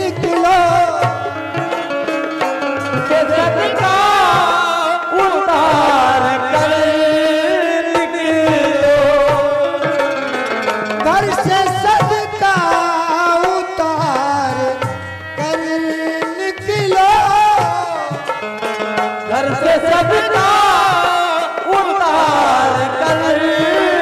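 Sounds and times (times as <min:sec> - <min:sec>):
hand drum rhythm: 0:00.0 - 0:24.0
harmonium melody: 0:00.0 - 0:24.0.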